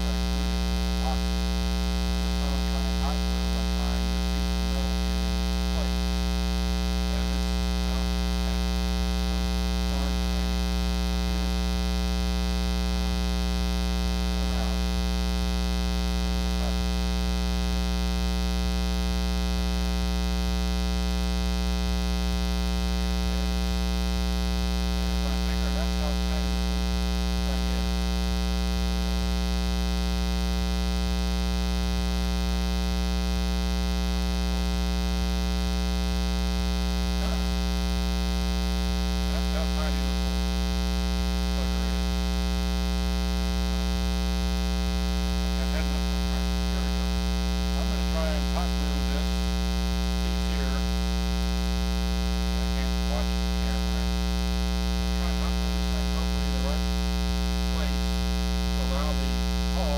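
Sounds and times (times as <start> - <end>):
mains hum with harmonics: 0.0 - 59.9.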